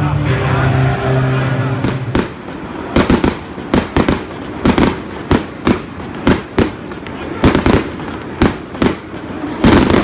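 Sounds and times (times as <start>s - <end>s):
fireworks bangs: 1.5s - 10.0s.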